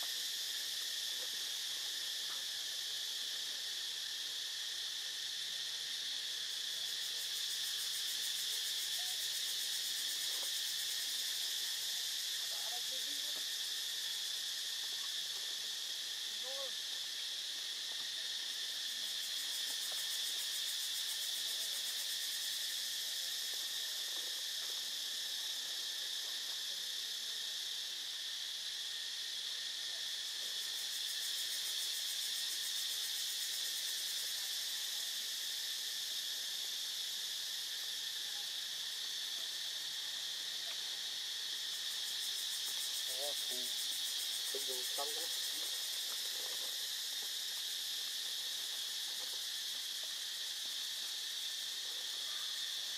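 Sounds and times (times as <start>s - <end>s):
insect chorus drone: 0.0s - 52.9s.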